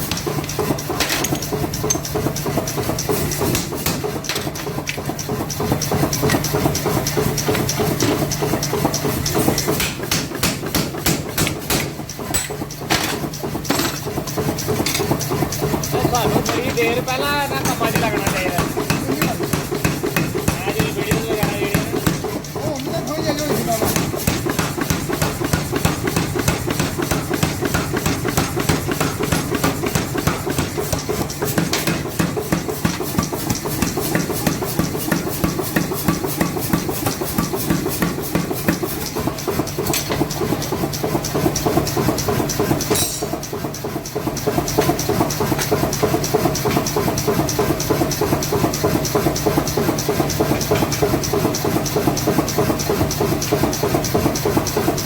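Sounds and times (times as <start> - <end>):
power hammer striking: 0.0 - 55.0.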